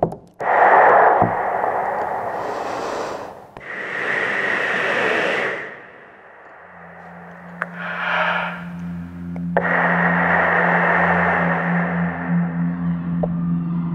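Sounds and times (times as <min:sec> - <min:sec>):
air blown through lips: 0:00.4 - 0:12.8.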